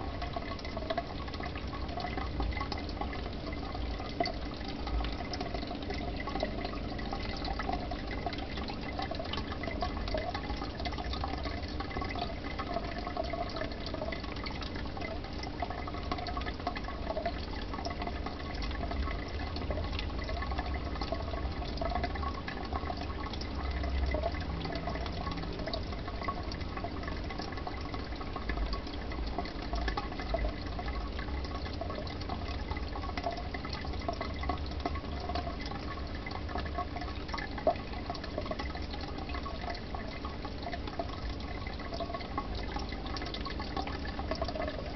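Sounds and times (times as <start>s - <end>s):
aquarium water bubbling: 0.0s - 44.9s
water drips and splashes: 0.0s - 44.9s.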